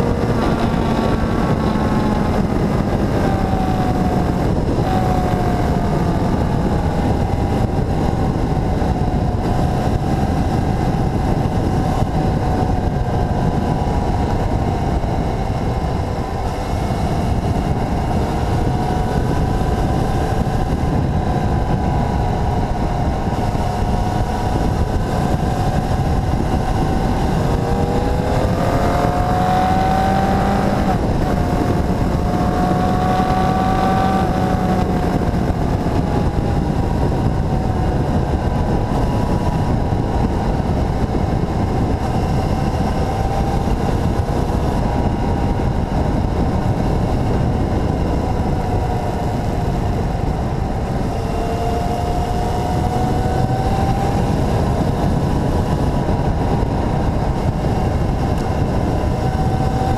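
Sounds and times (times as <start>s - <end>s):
motorcycle engine accelerating: 0.0s - 59.9s
wind roar on microphone: 0.0s - 59.9s.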